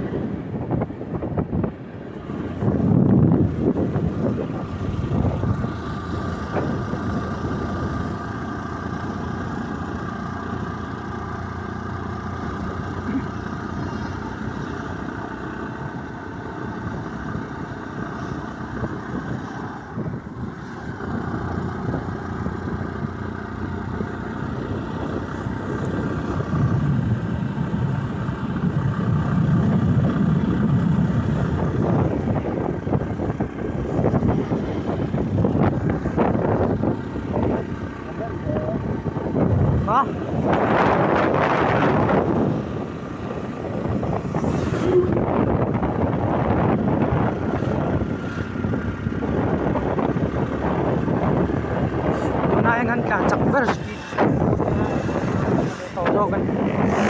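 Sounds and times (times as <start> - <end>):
rushing wind noise: 0.0 - 57.0.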